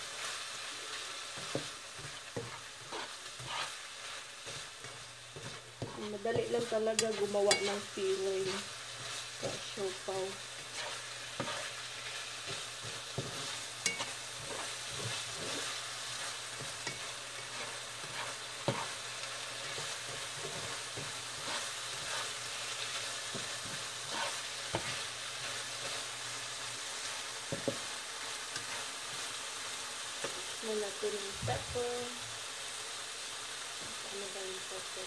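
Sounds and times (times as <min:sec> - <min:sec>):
meat sizzling in a frying pan: 0:00.0 - 0:35.0.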